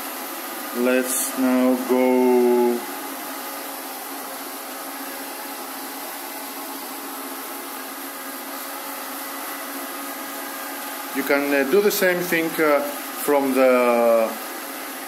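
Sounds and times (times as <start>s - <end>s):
robot vacuum fan whirring: 0.0s - 15.0s.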